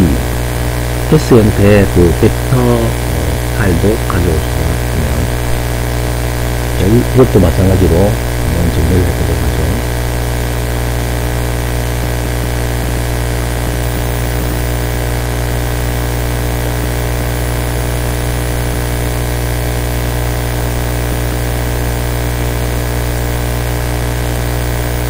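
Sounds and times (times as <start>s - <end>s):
electrical mains hum with hiss: 0.0s - 25.0s.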